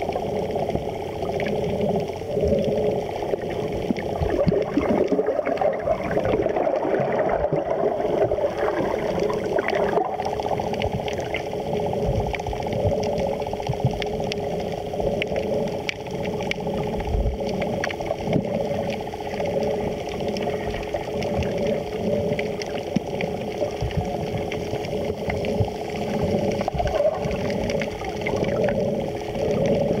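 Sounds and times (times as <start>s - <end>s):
faint underwater clicks and crackles: 0.0s - 30.0s
muffled underwater hum: 0.0s - 30.0s.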